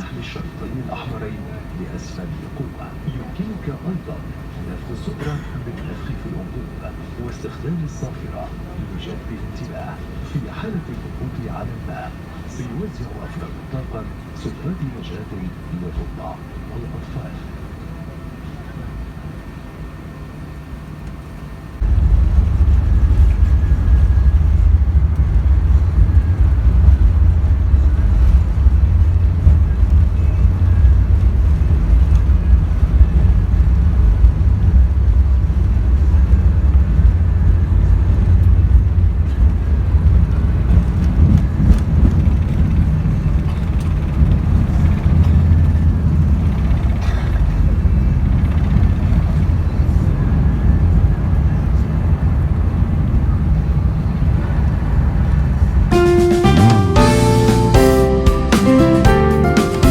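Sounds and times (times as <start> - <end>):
aircraft cabin hum: 0.0 - 59.9
engines and airflow rumbling: 0.0 - 59.9.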